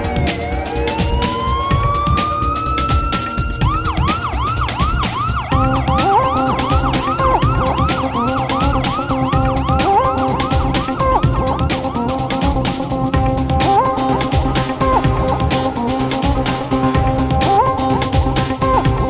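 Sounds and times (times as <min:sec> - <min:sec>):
electronic police siren: 0:00.0 - 0:19.0
steady pulsing beat: 0:00.0 - 0:19.0.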